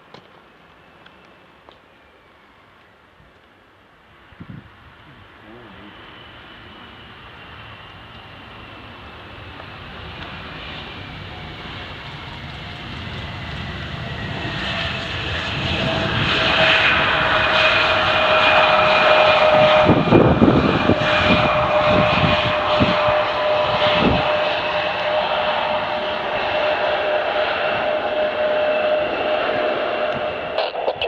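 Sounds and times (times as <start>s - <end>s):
jet engines whining: 3.8s - 31.0s.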